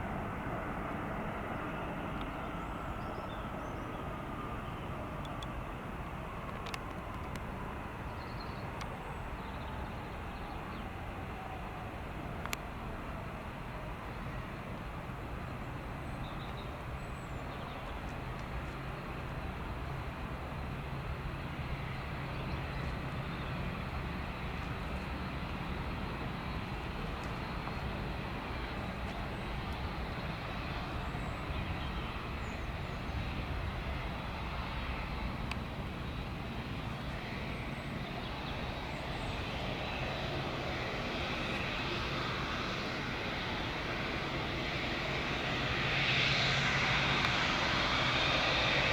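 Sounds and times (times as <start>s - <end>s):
jet engines roaring: 0.0s - 48.9s.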